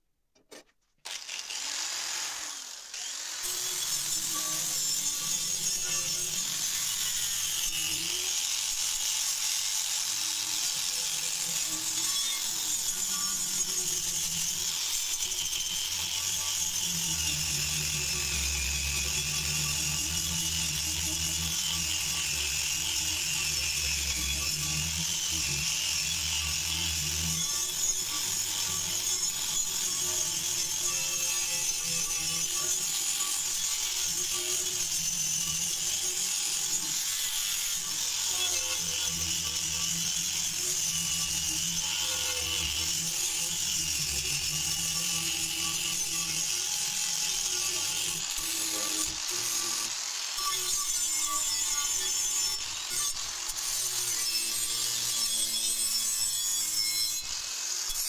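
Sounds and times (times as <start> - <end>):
angle grinder grinding metal: 1.0 - 58.0.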